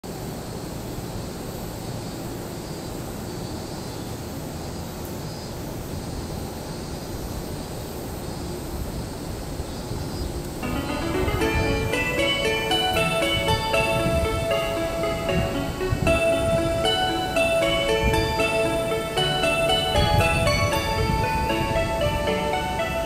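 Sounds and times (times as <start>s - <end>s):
low rumble and hiss: 0.1s - 23.0s.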